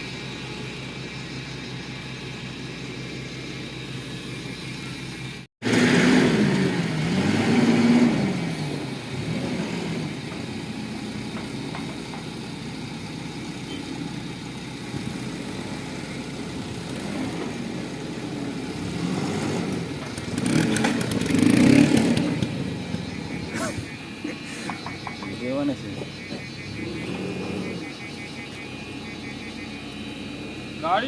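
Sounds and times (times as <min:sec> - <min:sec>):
diesel engine revving: 0:00.0 - 0:31.0.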